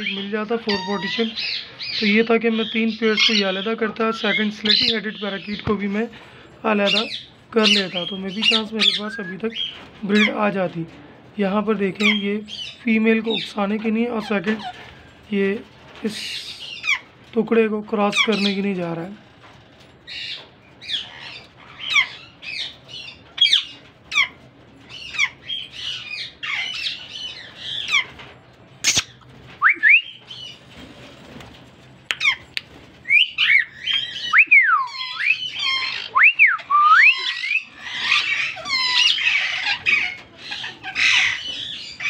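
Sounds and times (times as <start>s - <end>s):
parakeets squawking and chirping: 0.0s - 10.5s, 11.9s - 15.1s, 16.2s - 17.2s, 18.0s - 18.7s, 20.1s - 29.2s, 32.1s - 42.0s.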